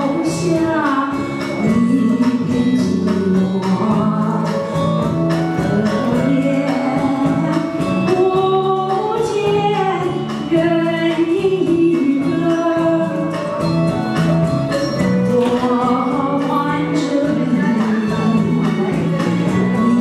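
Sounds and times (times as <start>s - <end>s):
woman singing into a microphone: 0.0s - 13.8s, 15.2s - 20.0s
karaoke backing track: 0.0s - 20.0s.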